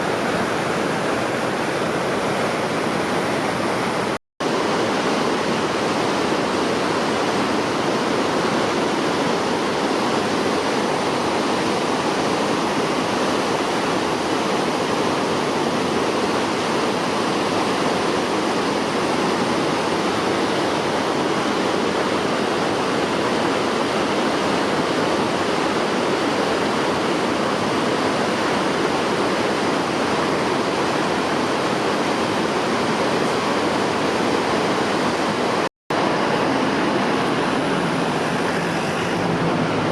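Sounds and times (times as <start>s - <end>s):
river water tumbling over rocks: 0.0s - 39.9s.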